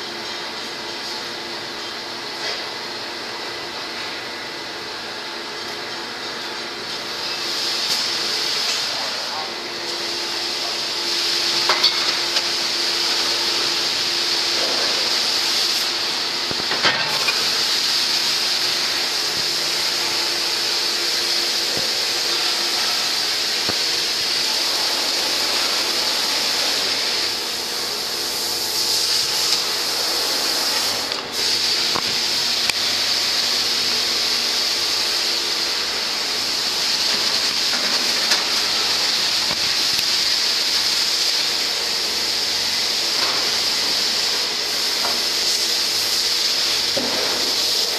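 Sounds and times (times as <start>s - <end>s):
furnace hissing: 0.0s - 47.9s.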